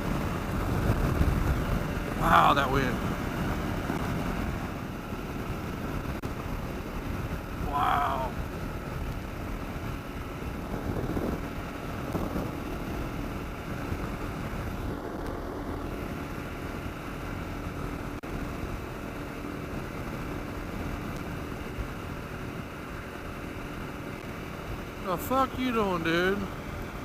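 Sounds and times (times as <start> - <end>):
wind buffeting microphone: 0.0 - 25.0
motorcycle engine running: 0.0 - 27.0.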